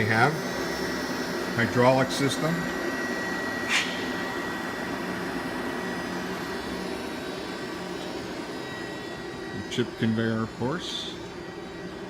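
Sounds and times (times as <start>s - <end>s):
machinery hum with high whine: 0.0s - 12.0s.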